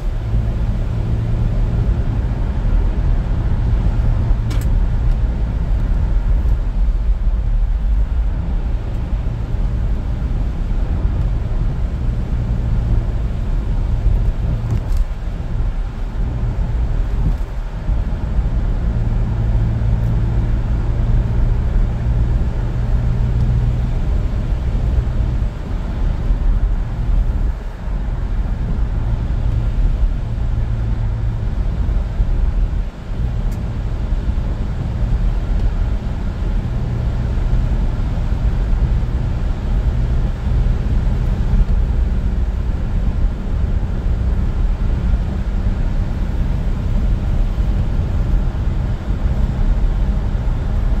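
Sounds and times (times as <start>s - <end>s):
car engine and tyres on wet road: 0.0s - 51.0s.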